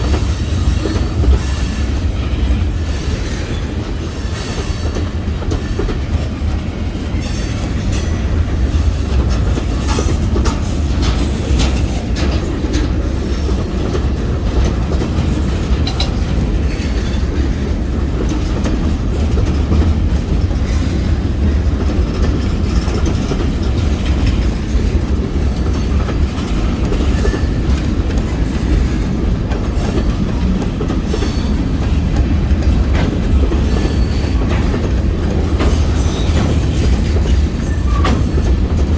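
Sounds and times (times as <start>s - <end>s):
freight train rumbling: 0.0s - 38.9s
train wheels clickety-clack: 0.0s - 38.9s.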